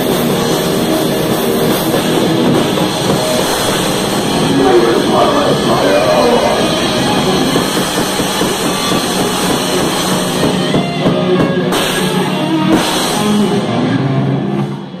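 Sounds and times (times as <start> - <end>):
live rock band playing: 0.0 - 14.8.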